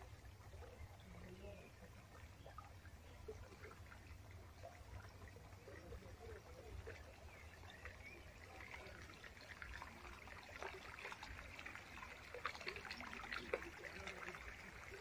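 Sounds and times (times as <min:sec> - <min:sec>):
small stream trickling: 0:00.0 - 0:15.0
water splashes and gurgles: 0:00.0 - 0:15.0.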